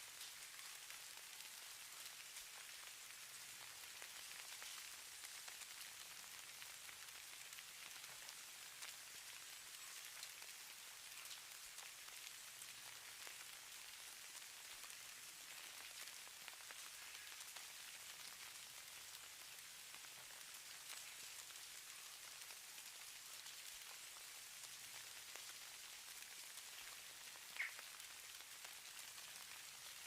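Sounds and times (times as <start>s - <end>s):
faint hiss of precipitation: 0.0s - 30.0s.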